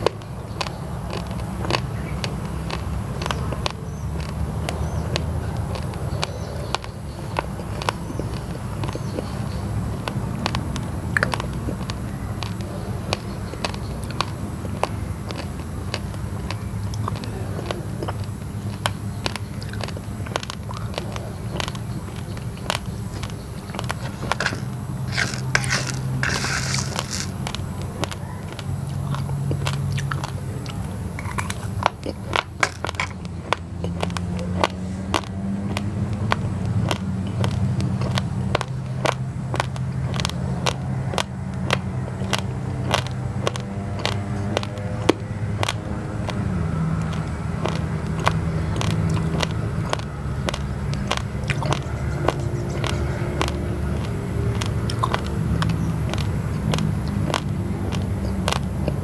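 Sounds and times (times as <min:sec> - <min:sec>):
rice grains crunching: 0:00.0 - 0:59.0
steady low hum: 0:00.0 - 0:59.0.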